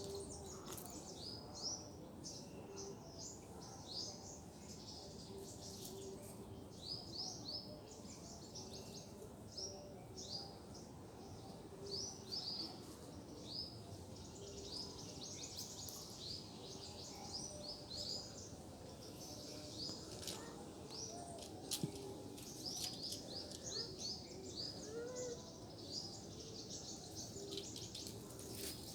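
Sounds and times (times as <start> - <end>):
low outdoor background noise: 0.0 - 28.9
small birds chirping: 0.0 - 28.9.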